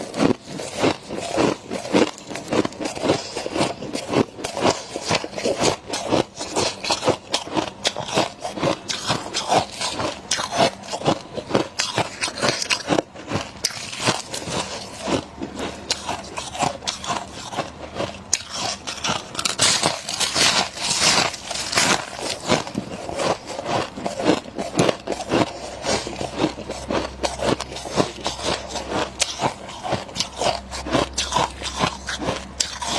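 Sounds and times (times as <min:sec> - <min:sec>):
chewing frost crunches: 0:00.0 - 0:32.9.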